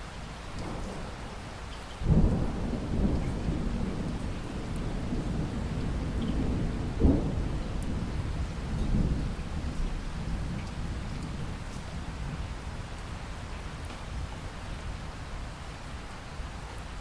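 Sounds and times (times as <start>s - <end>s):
steady rain: 0.0s - 17.0s
thunderclaps and rumbling: 0.5s - 15.6s.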